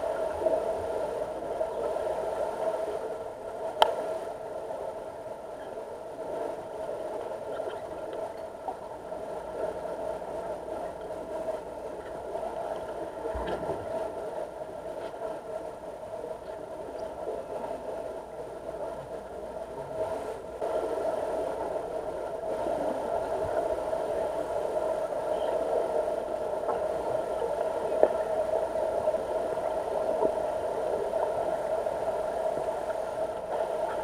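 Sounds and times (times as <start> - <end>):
underwater mechanical hum: 0.0 - 34.0.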